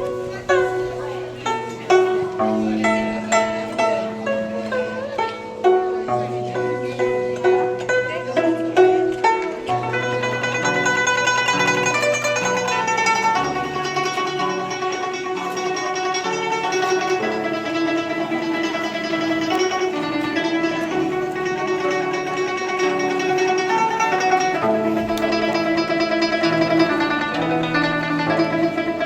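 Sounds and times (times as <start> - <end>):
plucked zither melody: 0.0 - 29.0.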